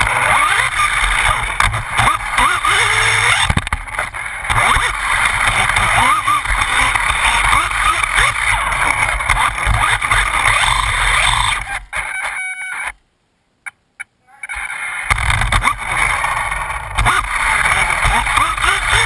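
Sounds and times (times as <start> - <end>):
rc car motor and tyre noise: 0.0 - 13.0, 14.4 - 19.0.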